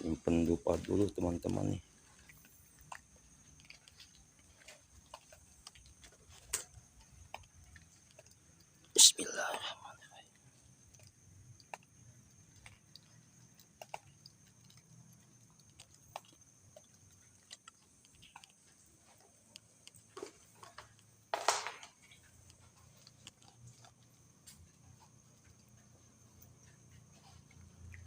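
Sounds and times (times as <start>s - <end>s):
faint clicks and taps: 0.7s - 8.9s, 10.3s - 28.0s.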